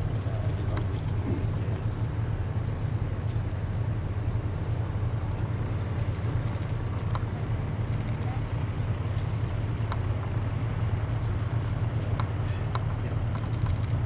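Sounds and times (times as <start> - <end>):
propeller plane drone overhead: 0.0 - 14.0.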